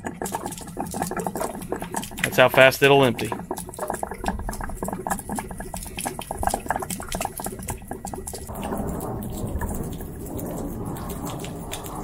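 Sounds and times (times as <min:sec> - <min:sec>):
water splashing onto concrete: 0:00.0 - 0:12.0.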